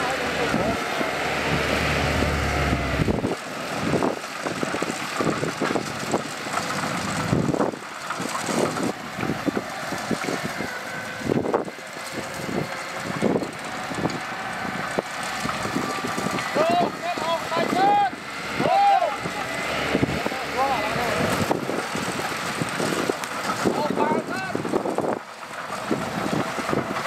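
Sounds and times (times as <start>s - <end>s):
diesel engine rumble: 0.0s - 27.0s.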